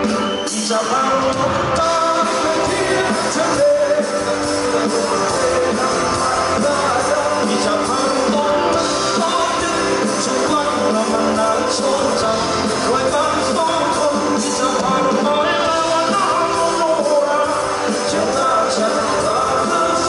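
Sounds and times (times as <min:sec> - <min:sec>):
drums: 0:00.0 - 0:20.0
electric guitars: 0:00.0 - 0:20.0
keyboard: 0:00.0 - 0:20.0
person singing lead vocal: 0:00.0 - 0:20.0.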